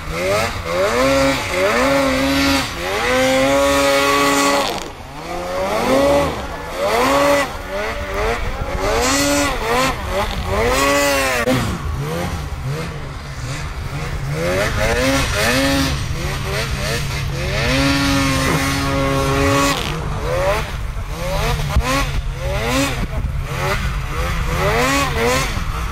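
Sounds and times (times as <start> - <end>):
snowmobile engines revving: 0.0 - 25.9.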